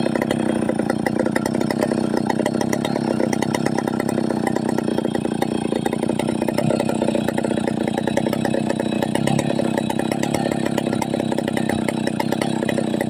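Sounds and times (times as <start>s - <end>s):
chainsaw engine running: 0.0s - 13.0s.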